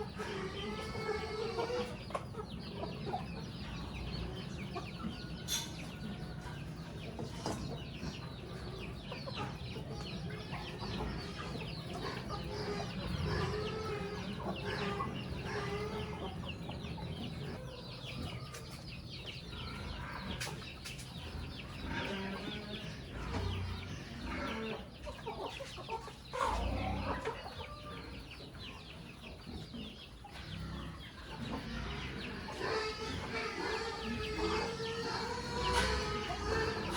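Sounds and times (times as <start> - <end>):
chickens clucking: 0.0 - 36.9.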